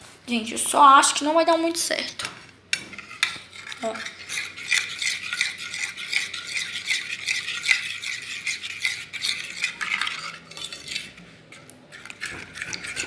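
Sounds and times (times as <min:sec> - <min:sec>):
utensil stirring sticky slime: 0:02.0 - 0:13.0.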